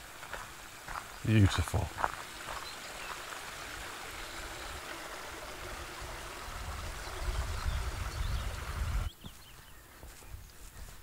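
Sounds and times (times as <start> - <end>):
stream rushing over stones: 0.0 - 9.1.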